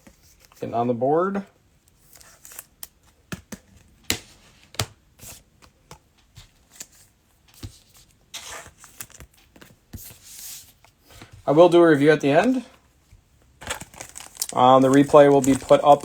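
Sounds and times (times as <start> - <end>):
cards rustling: 1.9 - 12.8, 13.5 - 16.0.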